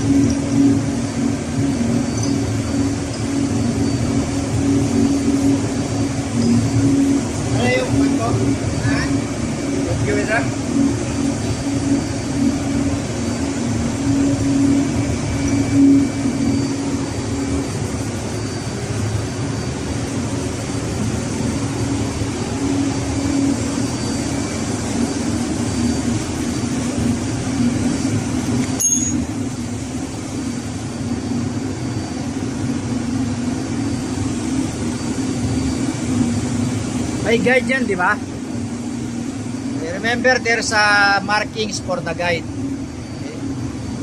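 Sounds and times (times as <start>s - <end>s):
ship machinery droning: 0.0s - 44.0s.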